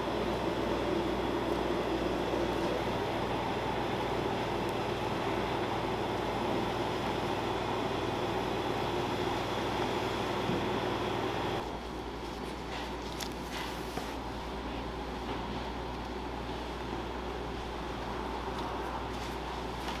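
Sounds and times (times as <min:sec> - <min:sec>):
mechanical drone with low hum: 0:00.0 - 0:20.0.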